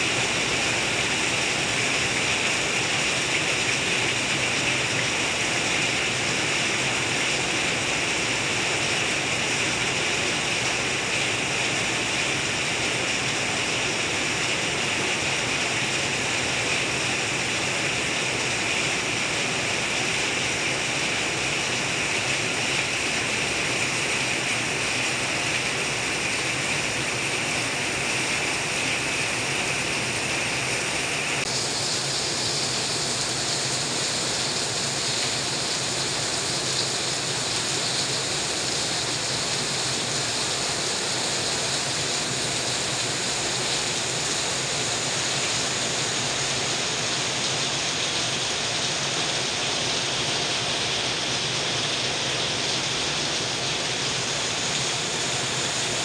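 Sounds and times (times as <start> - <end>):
heavy rain pouring: 0.0 - 56.0
water streaming off roof: 0.0 - 56.0.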